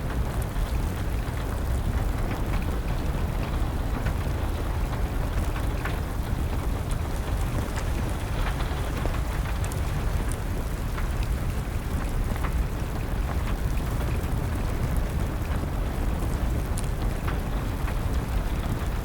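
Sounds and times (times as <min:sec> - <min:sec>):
steady rain: 0:00.0 - 0:19.0
wood fire crackling: 0:00.1 - 0:19.0.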